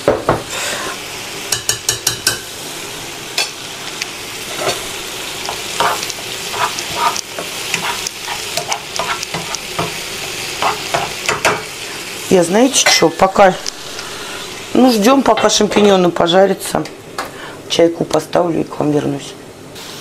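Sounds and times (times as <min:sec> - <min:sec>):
mushrooms sizzling in oil: 0:00.0 - 0:18.7, 0:19.7 - 0:20.0.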